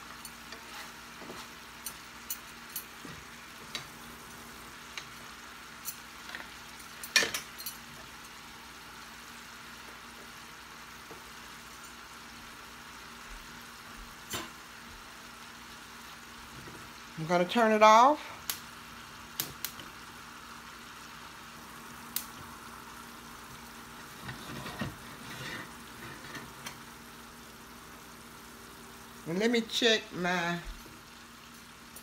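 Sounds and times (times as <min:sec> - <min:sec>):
chicken sizzling in a skillet: 0:00.0 - 0:32.0.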